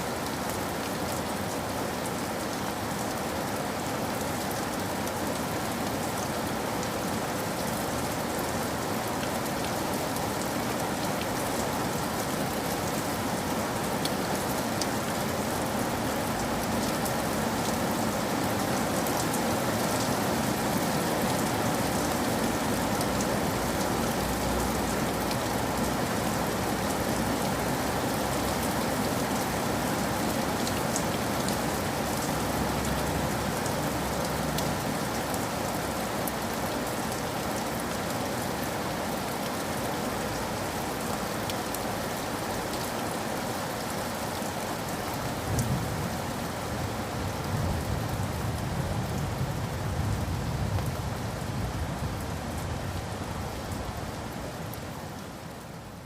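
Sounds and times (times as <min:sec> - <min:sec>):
steady rainfall hiss: 0:00.0 - 0:56.0
raindrops ticking on surface: 0:00.2 - 0:43.0, 0:46.8 - 0:55.7.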